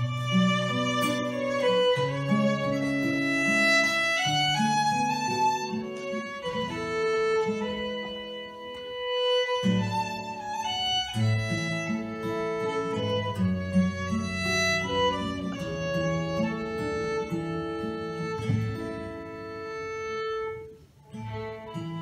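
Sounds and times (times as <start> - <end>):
acoustic guitar strumming chords: 0.0 - 22.0
fiddle melody: 0.0 - 22.0.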